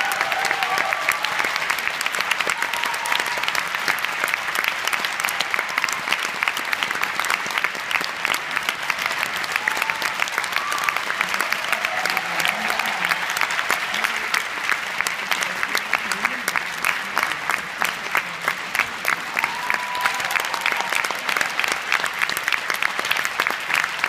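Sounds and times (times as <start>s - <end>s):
audience clapping: 0.0s - 24.0s
faint voices in crowd: 0.0s - 24.0s.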